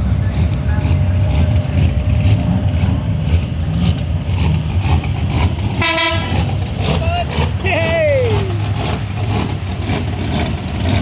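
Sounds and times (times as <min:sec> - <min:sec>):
supercharged engine rumbling: 0:00.0 - 0:11.0.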